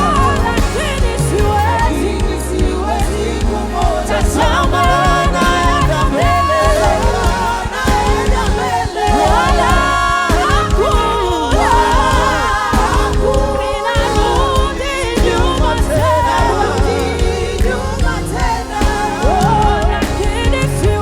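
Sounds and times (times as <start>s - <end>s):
band with heavy bass and drums: 0.0s - 21.0s
singers with vocal runs: 0.0s - 21.0s.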